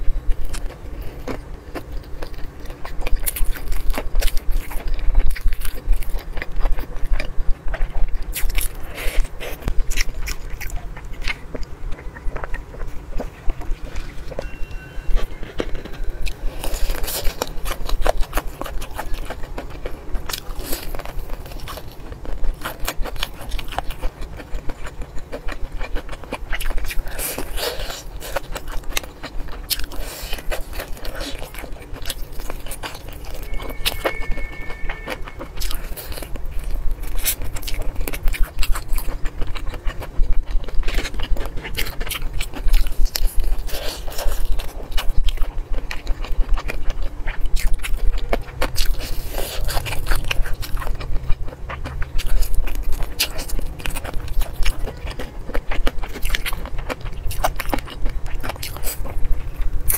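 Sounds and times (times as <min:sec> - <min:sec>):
crunching fried chicken: 0:00.0 - 0:59.9.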